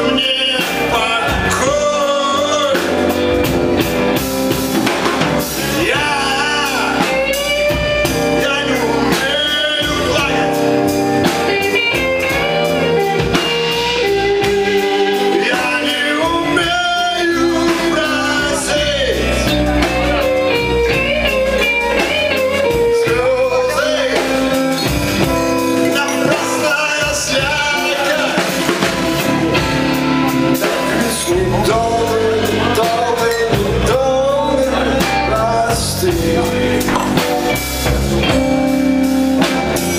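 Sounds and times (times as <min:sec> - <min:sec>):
person singing: 0:00.0 - 0:04.3, 0:05.4 - 0:38.7
rock band playing: 0:00.0 - 0:39.9.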